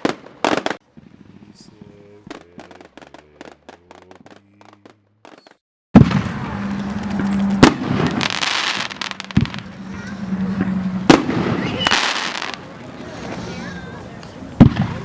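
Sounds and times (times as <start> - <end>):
firework bang: 0.0 - 12.7, 14.6 - 15.0
fireworks popping and bursting: 0.0 - 13.4, 14.6 - 15.0.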